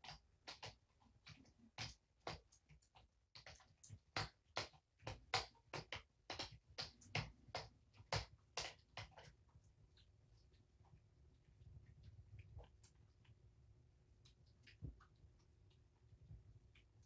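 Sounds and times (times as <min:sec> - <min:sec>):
kittens chewing wet food: 0:00.0 - 0:17.0.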